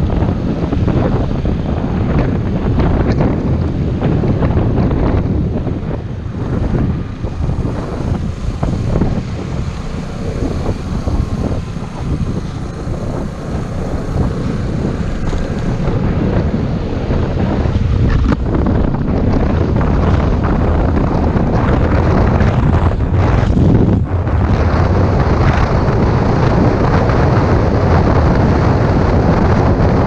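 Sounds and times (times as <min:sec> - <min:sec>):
scooter engine noise: 0:00.0 - 0:30.0
wind buffeting microphone: 0:00.0 - 0:30.0.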